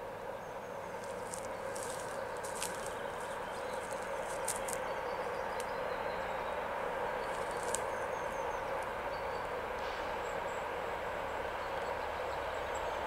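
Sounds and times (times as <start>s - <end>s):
distant diesel locomotive drone: 0.0s - 13.0s.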